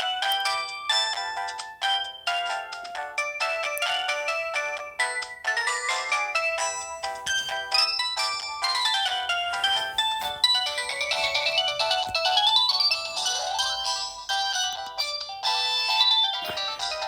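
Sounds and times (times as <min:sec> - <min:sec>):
synthesized phone ringtone melody: 0:00.0 - 0:17.0.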